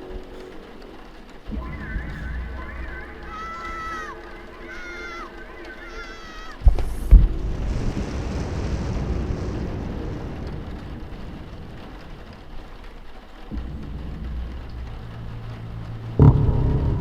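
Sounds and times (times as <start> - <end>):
deep noisy rumble: 0.0 - 17.0
low rumble: 0.0 - 17.0
steady deep hum: 0.0 - 17.0.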